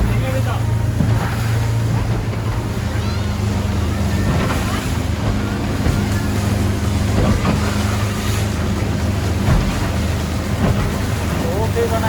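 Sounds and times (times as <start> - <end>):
motorboat engine droning: 0.0 - 12.0
rushing water: 0.0 - 12.0
wind: 0.0 - 12.0.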